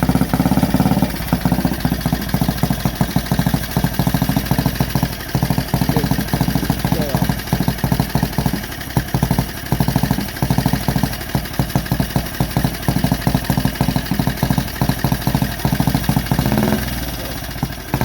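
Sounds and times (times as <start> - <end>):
motorcycle engine idling unevenly: 0.0 - 18.0.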